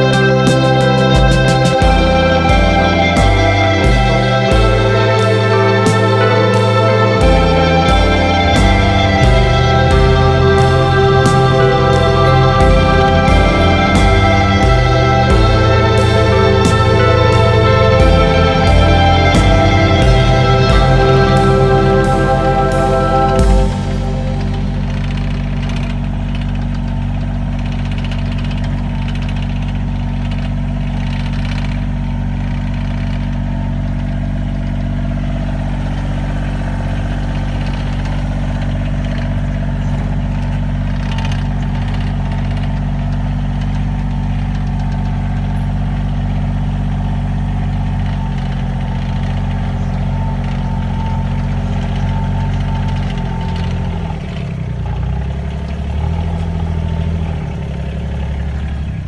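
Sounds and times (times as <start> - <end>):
farm vehicle engine running: 0.0 - 59.0.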